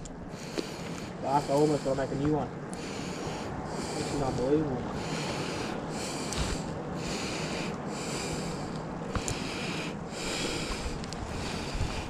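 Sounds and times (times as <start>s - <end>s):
low steady rumble: 0.0s - 12.0s
heavy breathing through nose: 0.3s - 12.0s.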